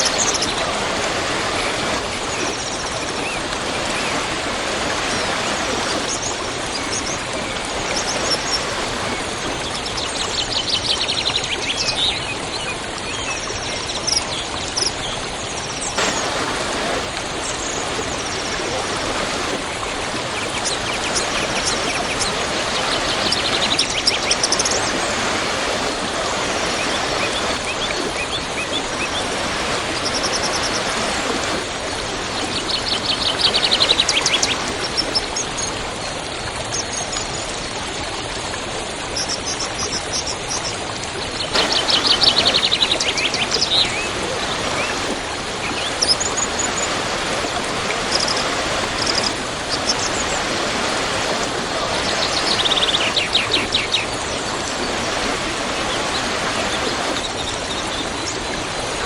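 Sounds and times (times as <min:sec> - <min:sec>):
rapid trilling bird calls: 0:00.0 - 0:12.1, 0:15.8 - 0:35.4, 0:41.5 - 0:58.4
waterfall rushing: 0:00.0 - 0:12.1, 0:13.0 - 0:36.0, 0:41.5 - 0:59.0
small birds chirping: 0:00.0 - 0:12.4, 0:13.3 - 0:35.4, 0:41.4 - 0:58.5.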